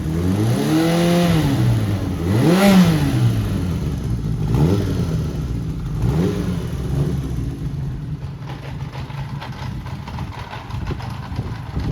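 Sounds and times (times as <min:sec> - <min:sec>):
motorcycle engine blipping and idling: 0:01.7 - 0:11.9.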